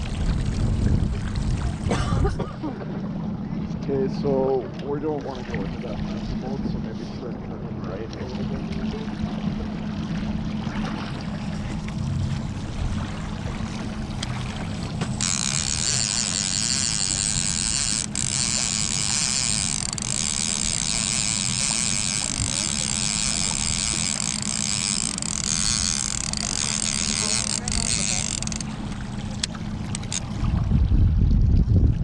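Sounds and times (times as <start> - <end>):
outboard motor running: 0.0 - 32.0
water churning: 0.0 - 32.0.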